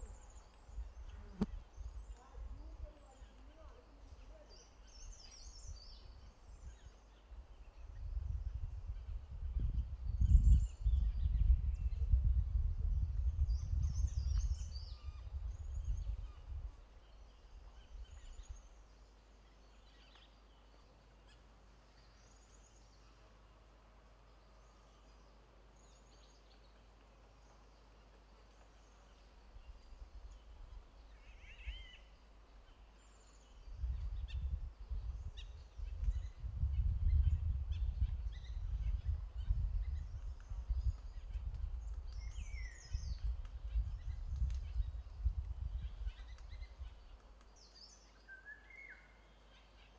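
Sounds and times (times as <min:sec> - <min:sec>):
small birds chirping: 0:00.0 - 0:23.3, 0:24.3 - 0:49.9.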